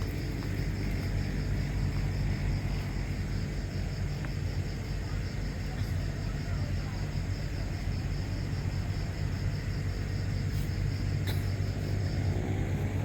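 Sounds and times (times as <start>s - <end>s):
moving train rumbling: 0.0s - 13.0s.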